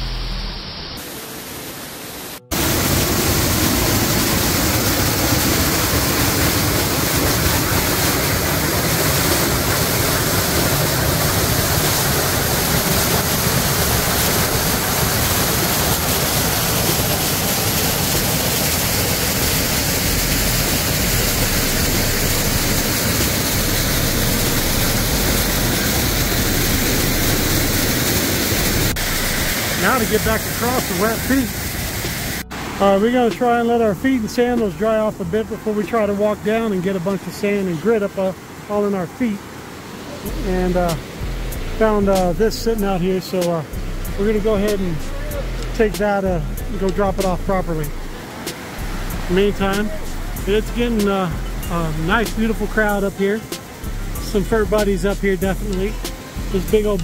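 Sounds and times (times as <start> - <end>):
waterfall roaring: 1.0 - 57.0.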